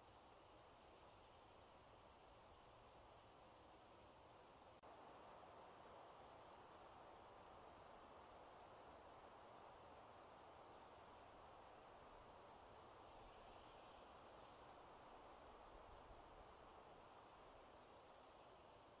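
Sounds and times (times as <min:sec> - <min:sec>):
soft woodland hiss: 0:00.0 - 0:19.0.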